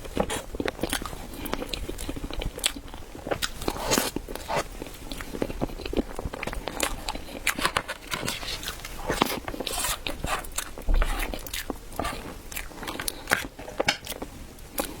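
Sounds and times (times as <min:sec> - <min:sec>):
crunchy bread chewing: 0:00.0 - 0:15.0.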